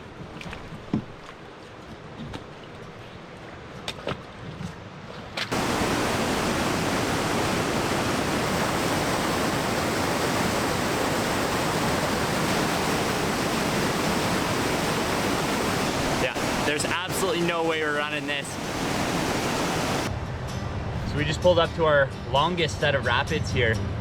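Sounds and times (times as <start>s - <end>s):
waterfall and rapids roaring: 0.0s - 20.1s.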